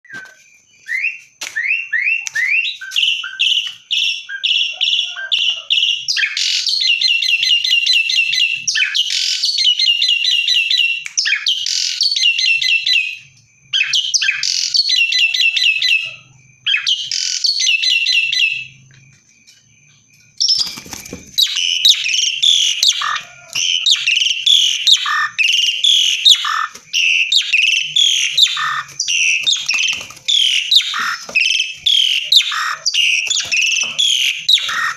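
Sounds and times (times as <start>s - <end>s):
starling singing: 0.0s - 18.9s, 20.0s - 34.9s.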